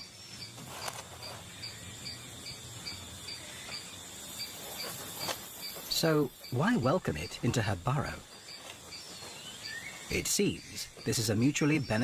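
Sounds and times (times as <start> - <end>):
high-pitched insect drone: 0.0 - 12.0
insects chirping in a pulse: 0.0 - 12.0.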